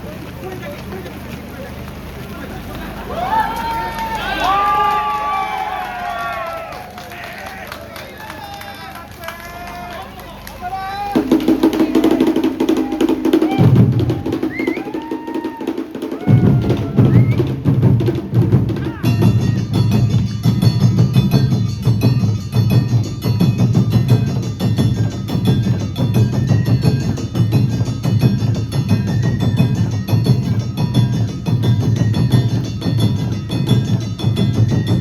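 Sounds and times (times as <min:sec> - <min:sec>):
drums beating: 0:00.0 - 0:35.0.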